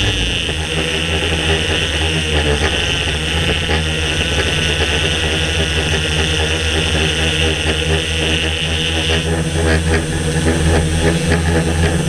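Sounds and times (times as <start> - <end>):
drone motors and propellers droning: 0.0 - 12.0.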